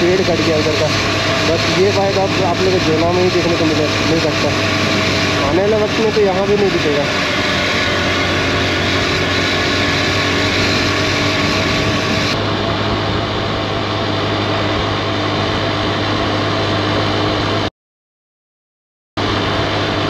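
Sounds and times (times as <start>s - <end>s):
motorcycle engine running: 0.0s - 17.7s.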